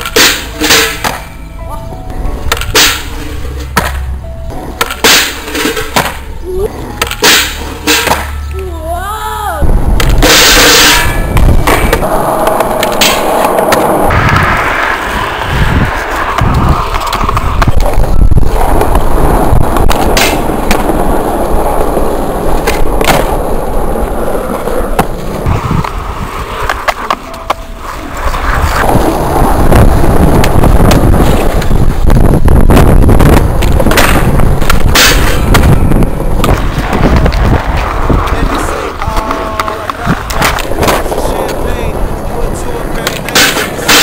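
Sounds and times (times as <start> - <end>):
skateboard clacking on ground: 0.0 - 1.5, 2.1 - 8.5, 10.0 - 29.6, 33.3 - 44.0
skateboard wheels rumbling on concrete: 0.0 - 1.5, 2.2 - 44.0.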